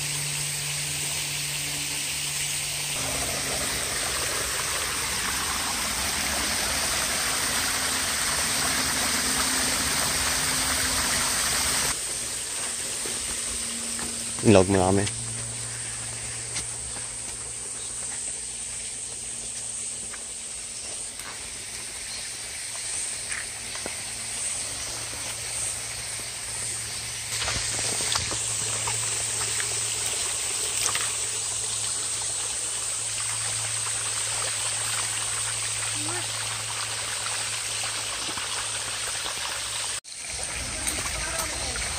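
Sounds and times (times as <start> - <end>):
stream water running over rock: 0.0 - 13.6, 19.1 - 41.9.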